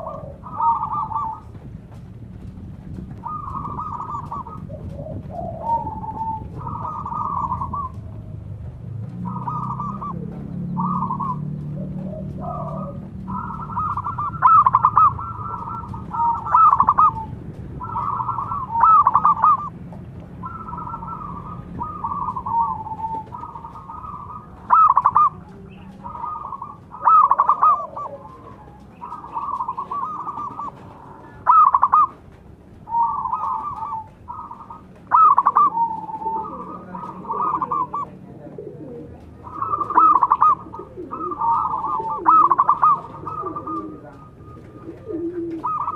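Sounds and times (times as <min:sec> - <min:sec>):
doves cooing: 0:00.0 - 0:45.9.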